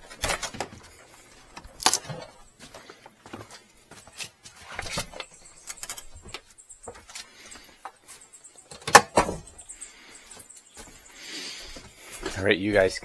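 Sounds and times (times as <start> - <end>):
footsteps: 0.0 - 8.5, 9.3 - 13.0.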